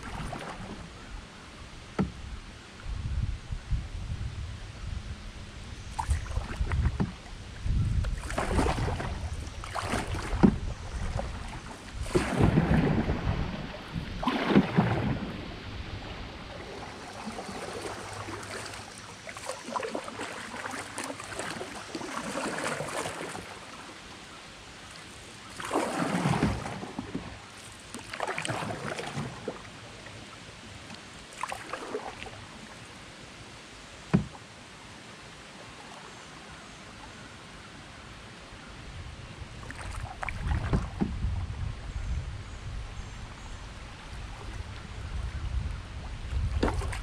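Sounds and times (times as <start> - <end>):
paddle splashing water: 0.0 - 2.8, 5.8 - 38.7, 39.4 - 41.9, 42.6 - 47.0
water rippling: 0.0 - 3.0, 5.1 - 47.0.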